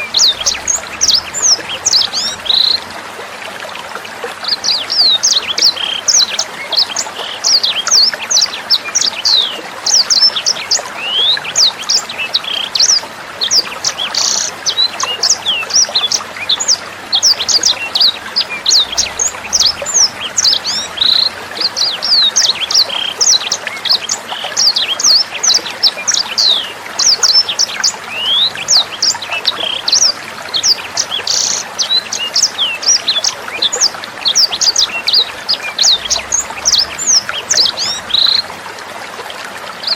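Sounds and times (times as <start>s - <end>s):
songbird chirping: 0.0s - 3.3s, 4.4s - 38.6s
water trickling: 0.0s - 39.9s.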